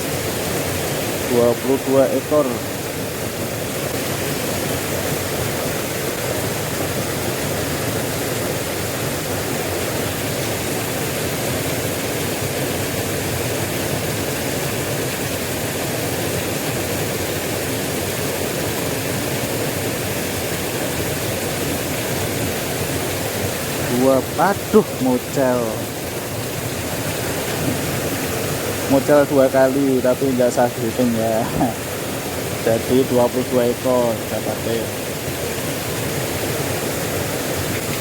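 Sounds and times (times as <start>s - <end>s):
river water flowing: 0.0s - 38.0s.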